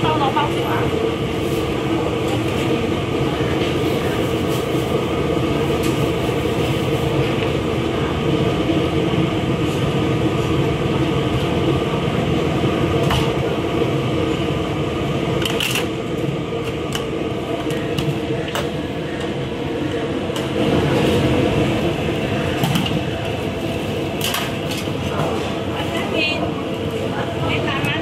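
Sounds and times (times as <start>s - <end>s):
busy kitchen roar: 0.0s - 28.0s.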